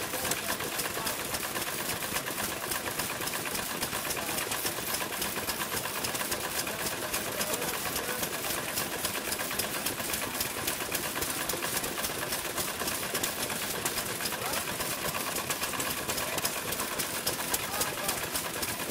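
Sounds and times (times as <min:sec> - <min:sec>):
old engines clattering: 0:00.0 - 0:18.9.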